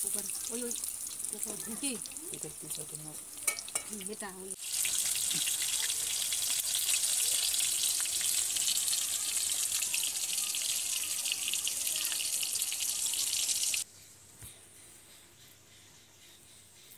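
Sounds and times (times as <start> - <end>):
food deep-frying in hot oil: 0.0 - 13.8.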